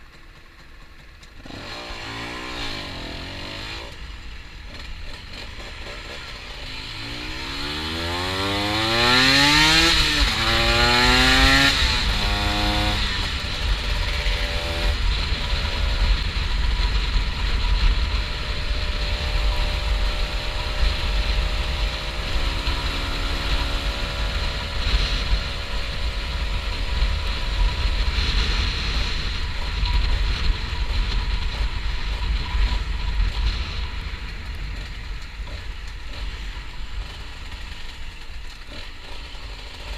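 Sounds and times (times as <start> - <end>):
motorcycle engine revving: 0.0 - 39.9
wind rumble on microphone: 1.5 - 39.9.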